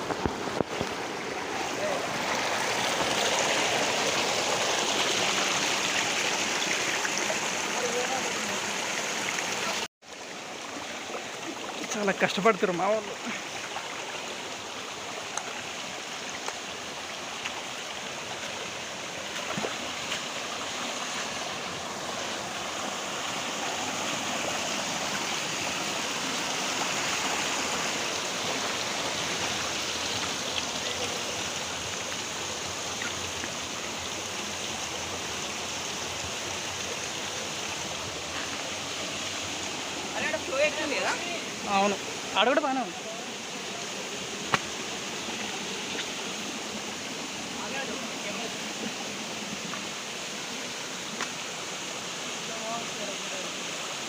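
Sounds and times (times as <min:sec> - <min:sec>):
rushing stream water: 0:00.0 - 0:54.0.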